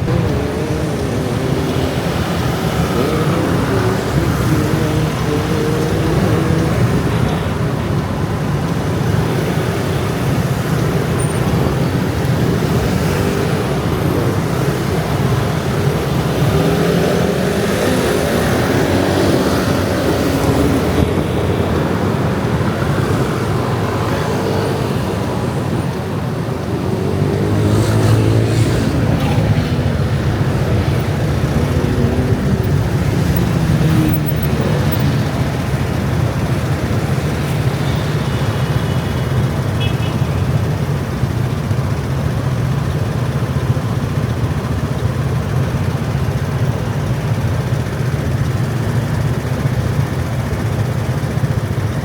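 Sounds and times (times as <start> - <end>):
motor scooter traffic droning: 0.0 - 52.0.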